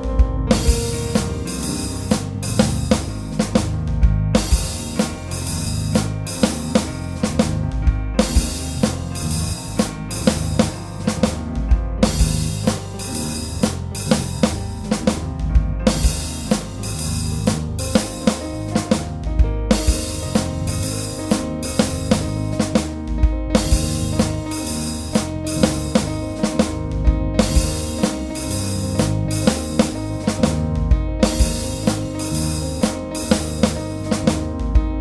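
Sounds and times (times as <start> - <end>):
drum kit beat: 0.0 - 35.0
low bass line: 0.0 - 35.0.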